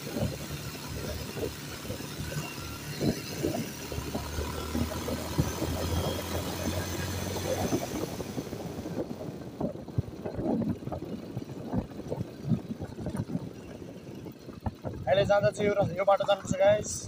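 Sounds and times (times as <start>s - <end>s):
motorcycle engine hum: 0.0s - 17.0s
road noise: 0.0s - 17.0s
wind buffeting microphone: 0.0s - 17.0s.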